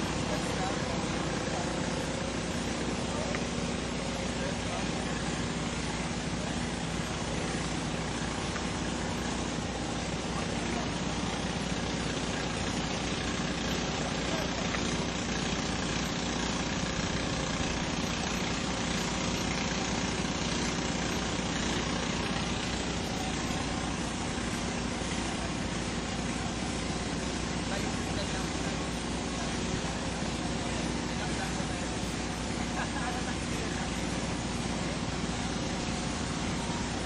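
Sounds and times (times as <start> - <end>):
motor idling: 0.0 - 37.0.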